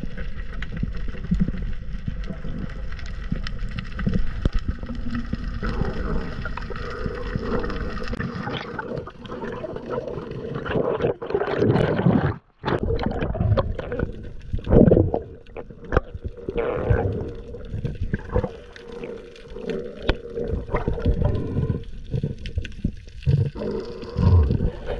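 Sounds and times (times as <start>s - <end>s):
underwater water rush with bubbling: 0.0s - 24.9s.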